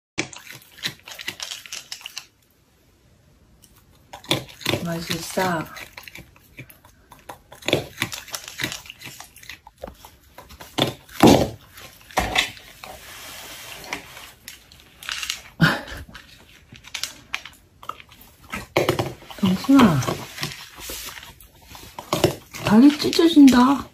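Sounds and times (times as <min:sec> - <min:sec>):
animal crunching dry food: 0:00.2 - 0:02.4, 0:03.6 - 0:23.9.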